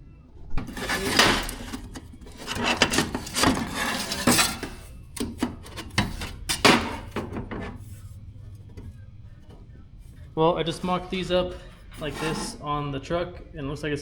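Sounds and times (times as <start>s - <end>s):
metal tubes scraping and sliding: 0.4s - 13.6s.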